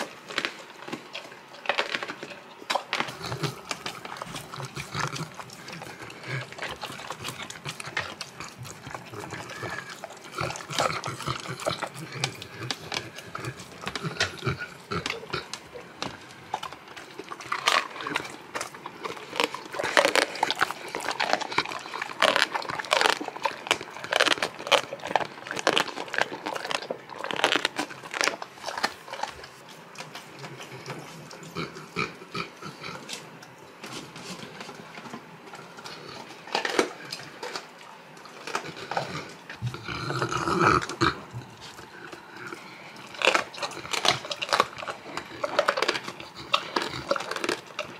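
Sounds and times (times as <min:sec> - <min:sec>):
dog chewing and crunching: 0:00.0 - 0:47.9.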